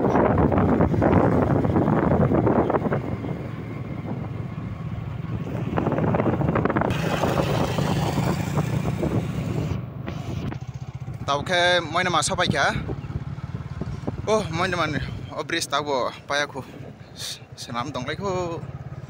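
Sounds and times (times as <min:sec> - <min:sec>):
motorcycle engine running: 0:00.0 - 0:15.7, 0:16.6 - 0:19.0
wind buffeting microphone: 0:00.0 - 0:19.0.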